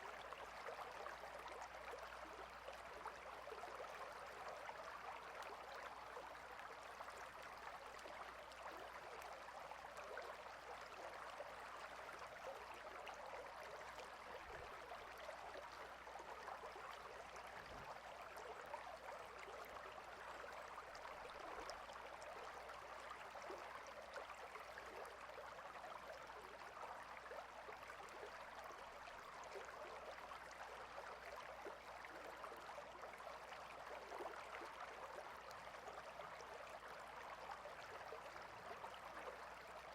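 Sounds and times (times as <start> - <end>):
small stream babbling: 0.0 - 39.9.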